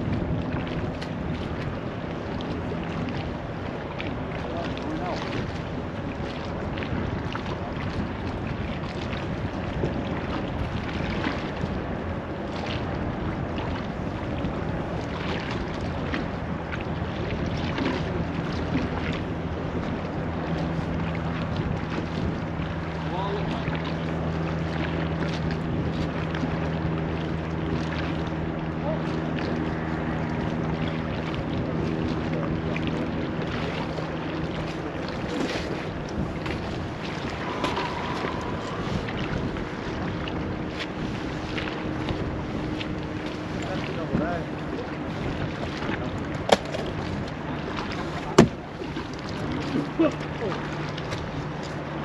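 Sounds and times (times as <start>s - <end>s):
low engine drone: 0.0s - 52.0s
water washing at shore: 0.0s - 52.0s
wind on microphone: 0.0s - 52.0s.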